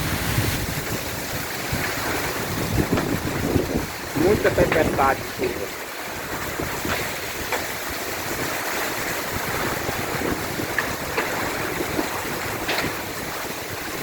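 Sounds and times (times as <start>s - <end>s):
hailstones tapping: 0.0s - 14.0s
heavy rain pouring: 0.0s - 14.0s.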